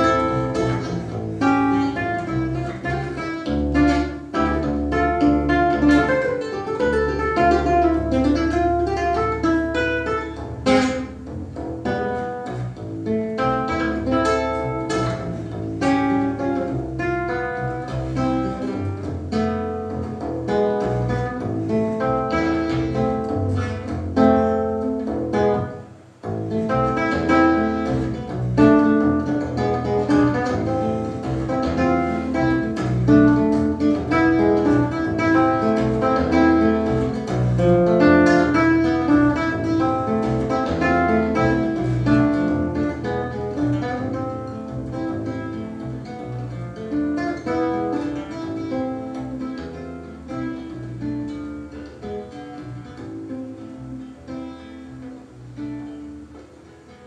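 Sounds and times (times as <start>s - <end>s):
plucked guitar bolero: 0.0s - 57.0s.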